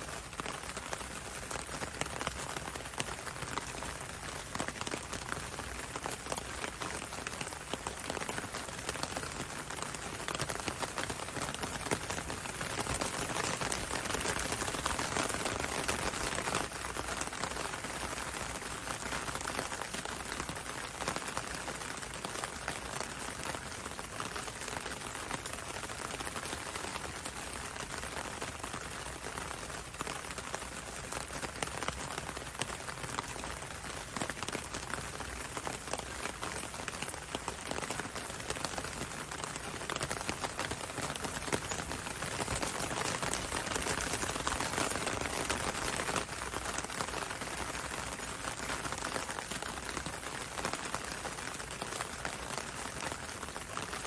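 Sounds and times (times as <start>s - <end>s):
rain hissing on a road: 0.0s - 54.0s
rain pattering on a window: 0.0s - 54.0s.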